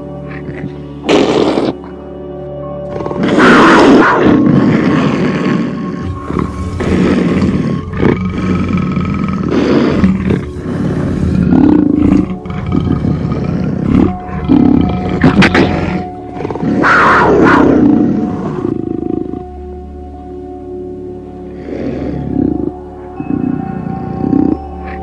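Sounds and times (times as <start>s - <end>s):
background music with held tones: 0.0s - 25.0s
big cat growling and roaring: 2.8s - 19.5s, 21.5s - 25.0s.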